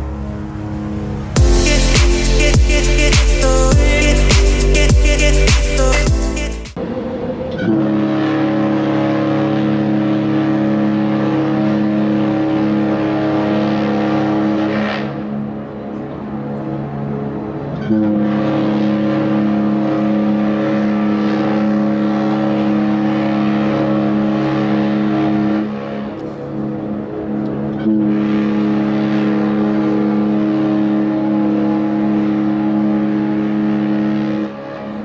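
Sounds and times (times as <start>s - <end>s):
ship horn blasts: 0.0s - 35.0s.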